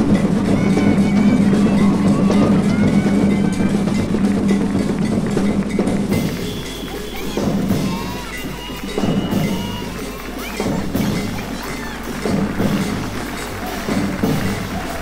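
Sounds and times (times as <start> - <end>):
drums: 0.0 - 15.0
street band playing rhythmic music: 0.0 - 15.0.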